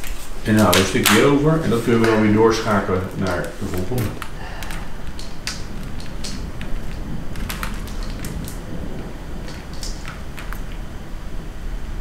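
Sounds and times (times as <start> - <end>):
small hard objects clicking: 0.0 - 10.9
low steady rumble: 0.0 - 12.0.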